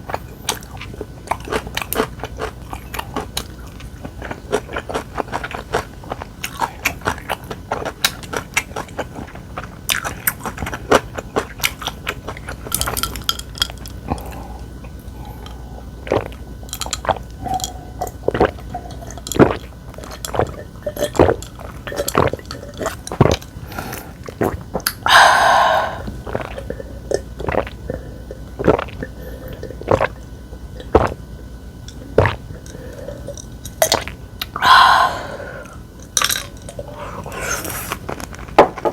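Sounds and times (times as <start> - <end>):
chewing: 0.1 - 31.2.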